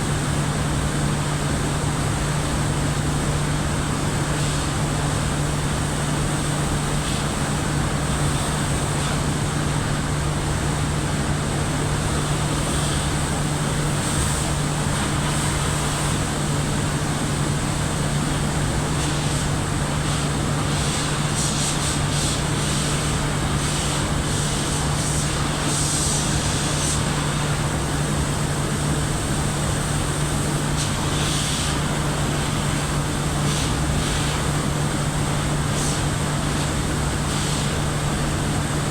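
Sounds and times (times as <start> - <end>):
boiler plant machinery roar: 0.0 - 38.9.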